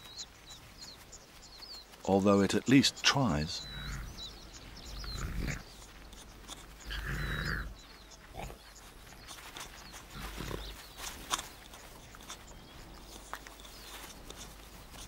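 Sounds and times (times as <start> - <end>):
faint bird chirps: 0.0 - 15.0
jackal snuffling: 0.0 - 15.0.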